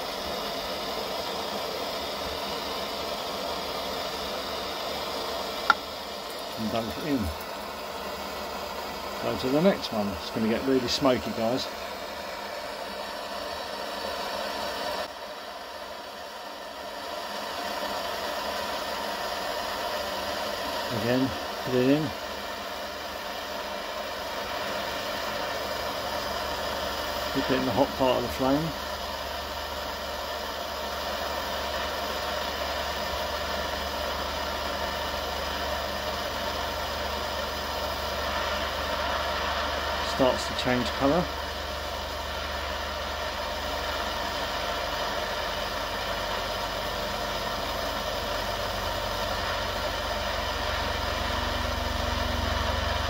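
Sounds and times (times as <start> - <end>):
gas torch hissing: 0.0 - 53.0.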